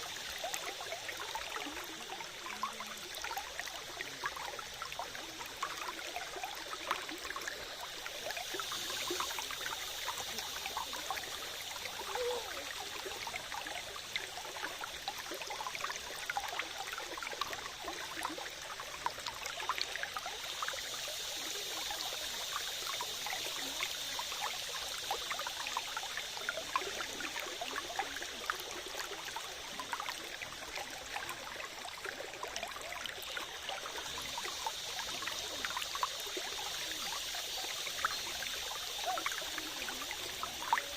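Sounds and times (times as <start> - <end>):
stream trickling and burbling: 0.0 - 40.9.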